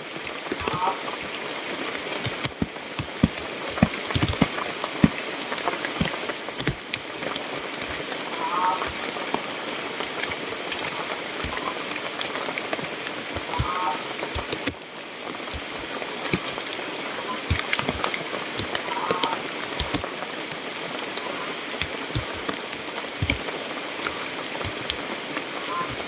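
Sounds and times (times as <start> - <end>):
heavy rain: 0.0 - 26.0
raindrops tapping surfaces: 0.0 - 26.0.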